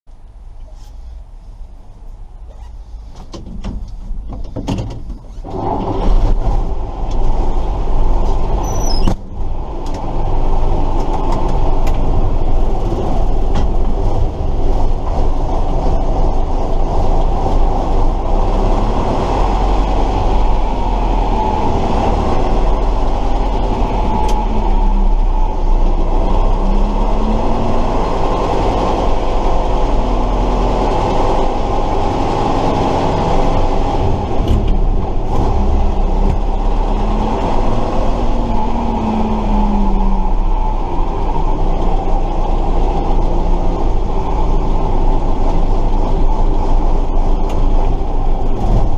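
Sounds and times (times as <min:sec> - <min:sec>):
truck engine running: 0:05.3 - 0:48.9.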